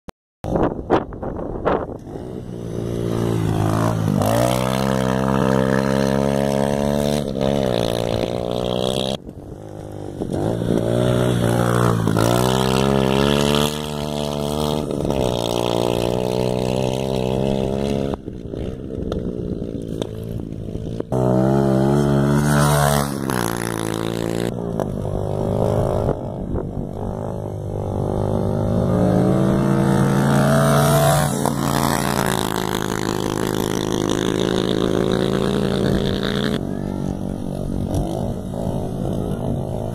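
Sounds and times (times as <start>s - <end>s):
motocross bike engine revving: 2.0s - 39.9s.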